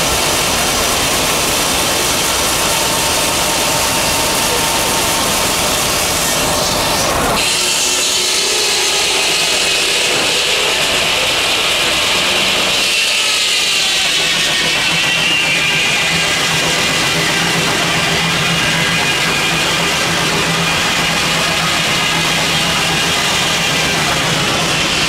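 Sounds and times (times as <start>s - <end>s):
circular saw whine: 0.0s - 25.0s.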